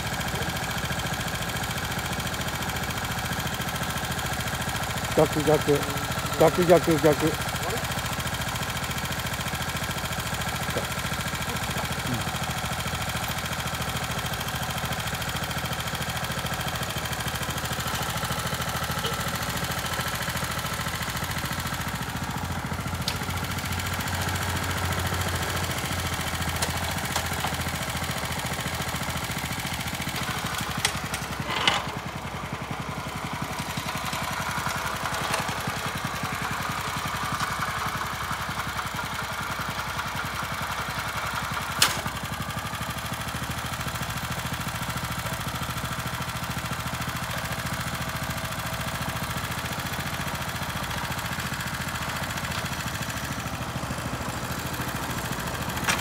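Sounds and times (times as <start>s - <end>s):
tiller engine running: 0.0s - 56.0s.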